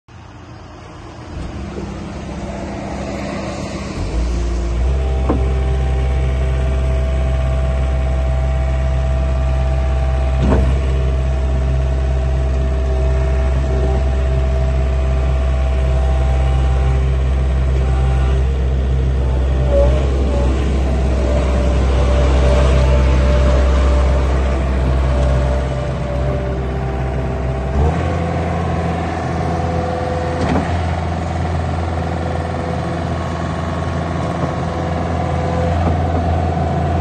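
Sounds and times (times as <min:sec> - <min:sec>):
diesel engine revving: 0:00.1 - 0:37.0.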